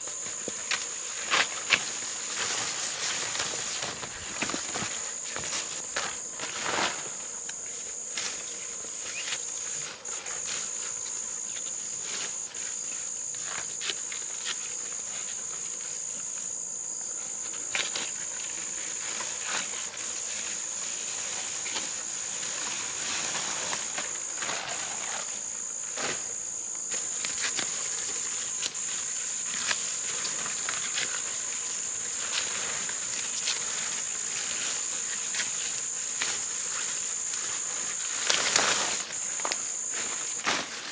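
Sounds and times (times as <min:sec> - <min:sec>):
crickets shrilling: 0:00.0 - 0:40.9.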